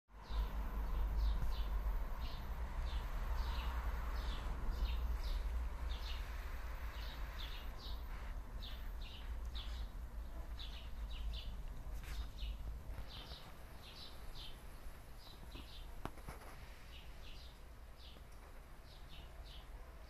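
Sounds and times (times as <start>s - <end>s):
small bird chirping: 0.2s - 20.0s.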